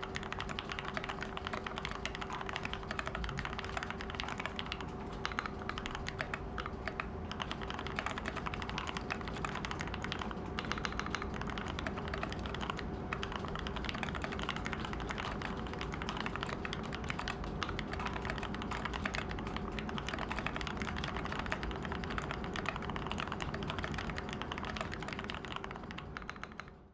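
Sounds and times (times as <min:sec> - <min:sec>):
faint steady hum: 0:00.0 - 0:26.9
mechanical keyboard typing: 0:00.0 - 0:26.9.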